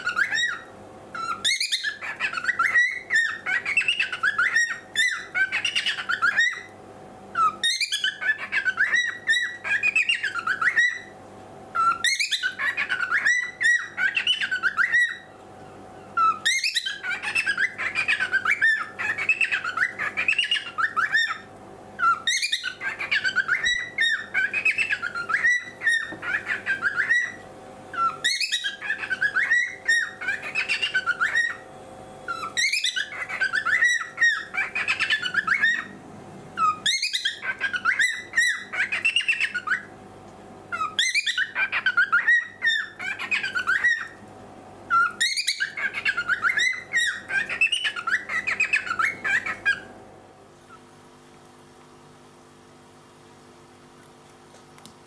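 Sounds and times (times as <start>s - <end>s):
cockatiel chirps and whistles: 0.0s - 6.8s, 7.4s - 11.2s, 11.8s - 15.3s, 16.2s - 27.4s, 28.0s - 31.6s, 32.3s - 36.0s, 36.6s - 39.9s, 40.7s - 44.2s, 44.9s - 49.9s.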